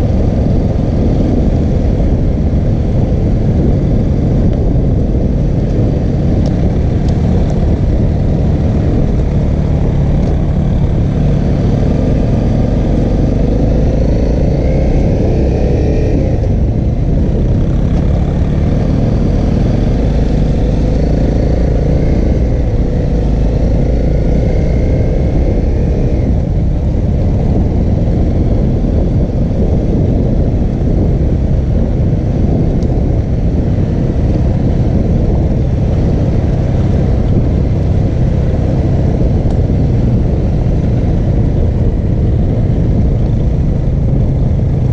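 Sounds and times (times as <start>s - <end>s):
motorcycle engine running: 0.0s - 44.9s
wind rumble on microphone: 0.0s - 44.9s.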